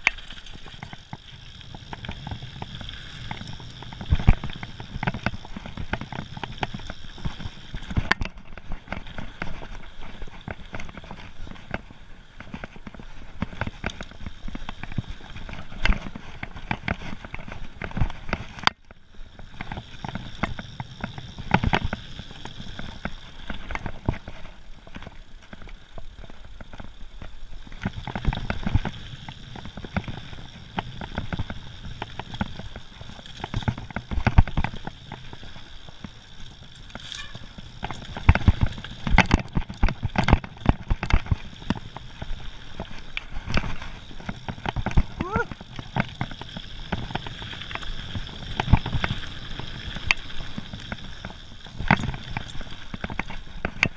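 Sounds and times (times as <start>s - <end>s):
bike knocking and rattling: 0.0s - 53.9s
bike tyres on gravel: 0.0s - 53.9s.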